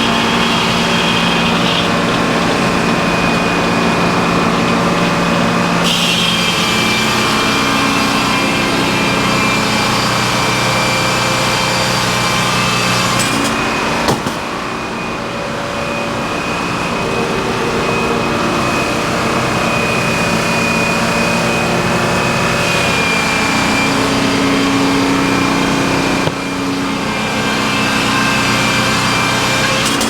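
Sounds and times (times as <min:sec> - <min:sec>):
sawmill machinery running: 0:00.0 - 0:30.0.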